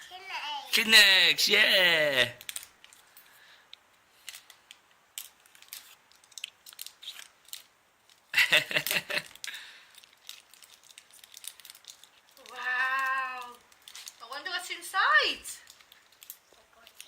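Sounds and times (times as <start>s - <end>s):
foil wrapper crinkling: 2.2s - 17.0s.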